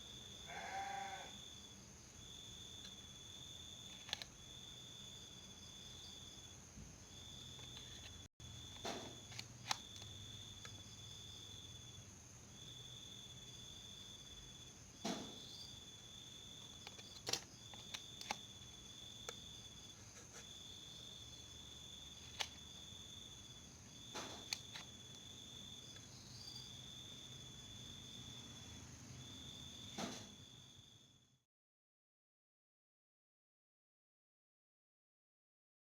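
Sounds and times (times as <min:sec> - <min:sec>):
high-pitched insect trill: 0:00.0 - 0:31.2.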